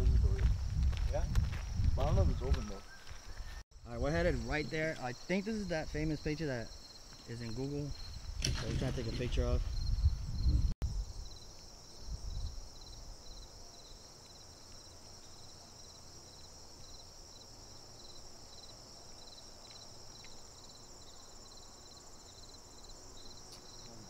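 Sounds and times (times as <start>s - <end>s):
insects trilling and chirping: 0.0s - 24.0s.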